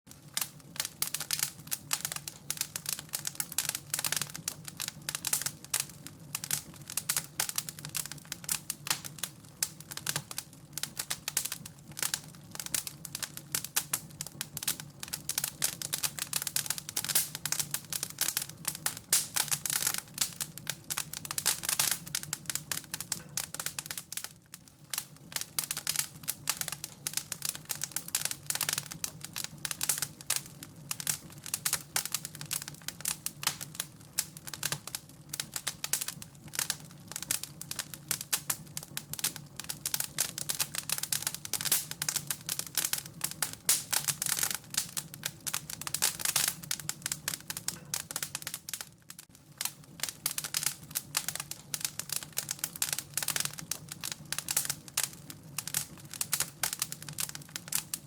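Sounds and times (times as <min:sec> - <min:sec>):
fire crackling in a fireplace: 0:00.1 - 0:58.0.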